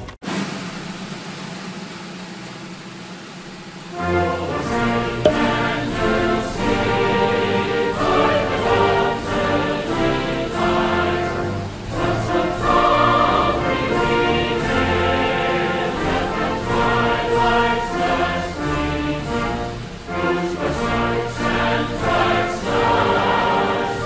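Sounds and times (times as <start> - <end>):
choir singing long notes: 3.9 - 24.0
orchestra playing: 3.9 - 24.0.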